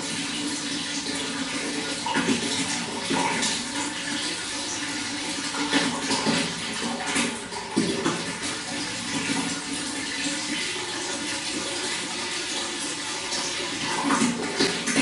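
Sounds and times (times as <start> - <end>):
running water rushing and gurgling: 0.0 - 15.0.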